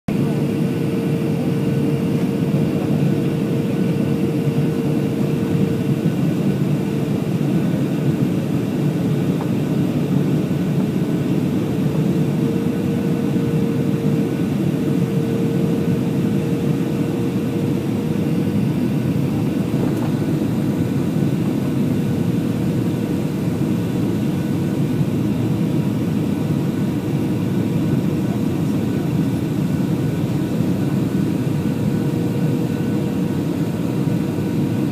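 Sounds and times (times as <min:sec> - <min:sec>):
airliner engines roaring: 0:00.1 - 0:34.9.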